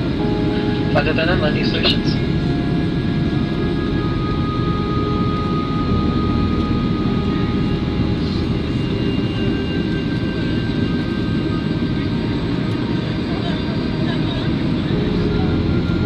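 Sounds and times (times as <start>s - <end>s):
airliner cabin engine rumble: 0.0s - 16.0s
faint whining tones: 0.0s - 16.0s.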